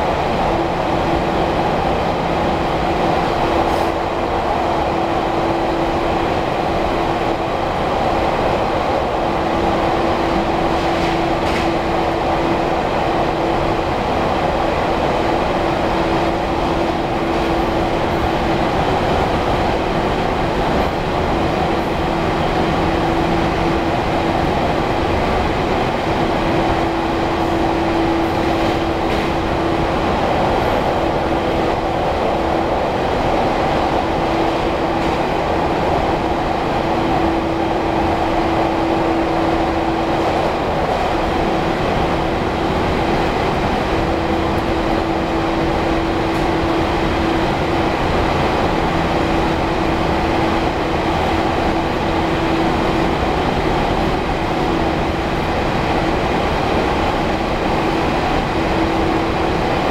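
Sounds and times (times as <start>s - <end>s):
train rumble in a tunnel: 0.0s - 59.9s.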